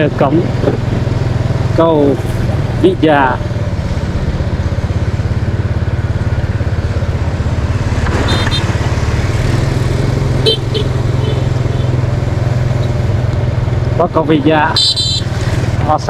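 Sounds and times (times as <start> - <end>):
motorbike engine cruising: 0.0 - 16.0
road and wind noise: 0.0 - 16.0.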